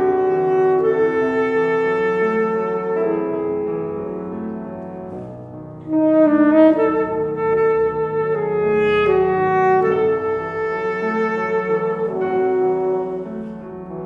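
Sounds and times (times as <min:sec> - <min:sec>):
slow saxophone melody: 0:00.0 - 0:14.0.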